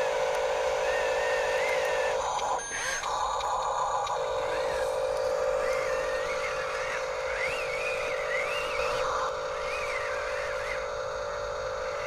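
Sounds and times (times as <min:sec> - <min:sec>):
toy motor and gearbox whining: 0:00.0 - 0:12.0.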